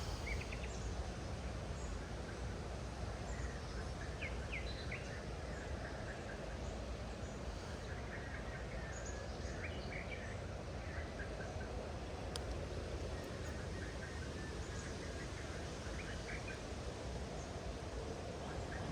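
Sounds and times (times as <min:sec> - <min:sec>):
low outdoor background rush: 0:00.0 - 0:18.9.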